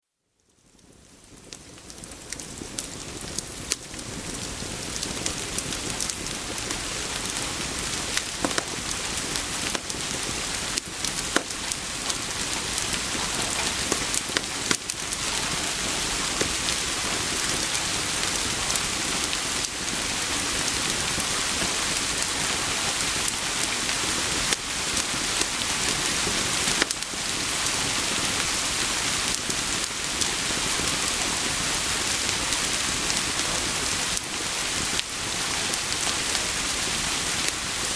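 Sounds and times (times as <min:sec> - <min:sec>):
wood fire crackling: 0:00.3 - 0:37.9
rain pouring on a surface: 0:00.5 - 0:37.9.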